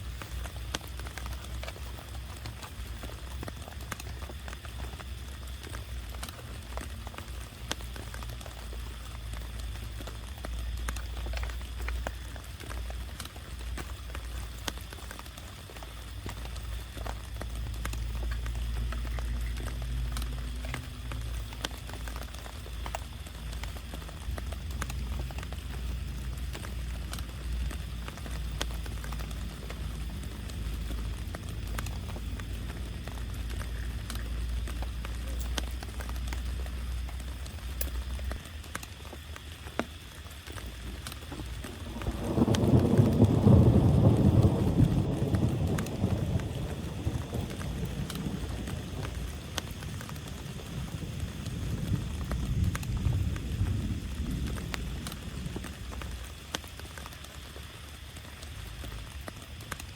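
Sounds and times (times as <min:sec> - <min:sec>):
heavy rain on a tarp: 0:00.0 - 0:59.9
raindrops tapping on fabric: 0:00.0 - 0:59.9.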